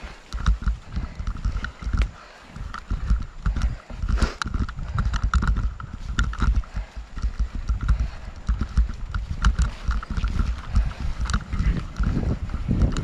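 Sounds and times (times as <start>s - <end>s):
sharp clicks and rattles: 0.0s - 13.0s
wind buffeting microphone: 0.0s - 13.0s.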